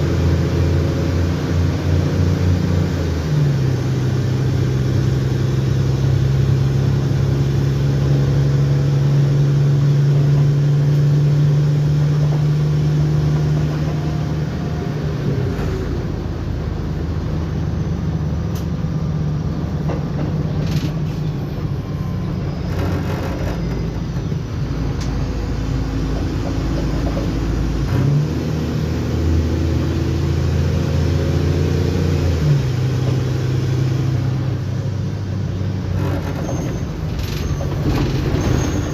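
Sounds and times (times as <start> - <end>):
bus diesel engine humming: 0.0 - 38.9.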